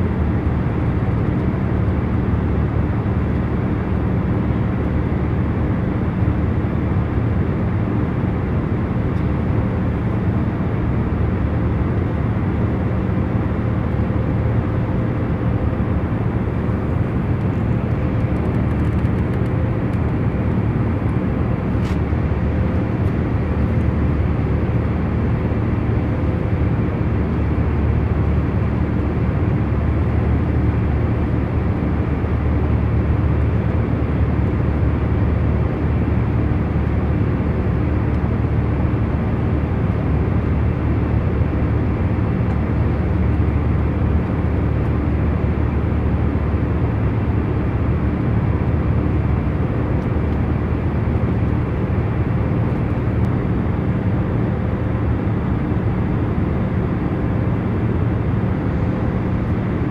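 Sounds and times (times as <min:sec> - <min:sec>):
jet cabin rumble and hiss: 0:00.0 - 0:59.9.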